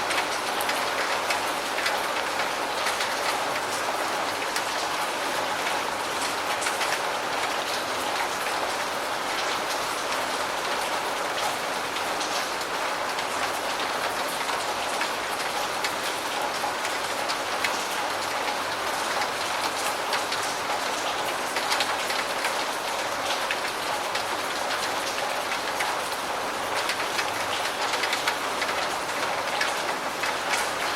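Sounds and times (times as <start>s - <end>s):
steady rainfall: 0.0s - 30.9s.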